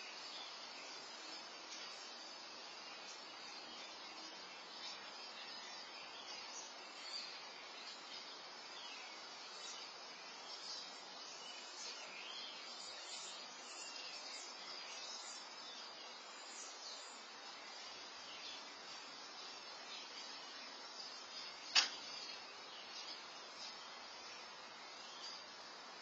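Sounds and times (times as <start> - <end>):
faint bird chirps: 0.0 - 26.0
steady hiss: 0.0 - 26.0.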